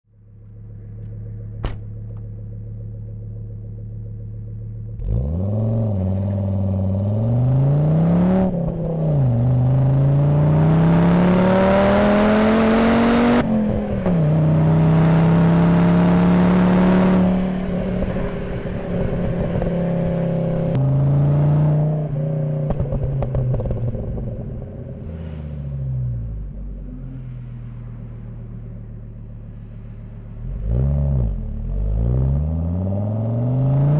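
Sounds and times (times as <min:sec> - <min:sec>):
car engine revving: 0:00.4 - 0:33.9.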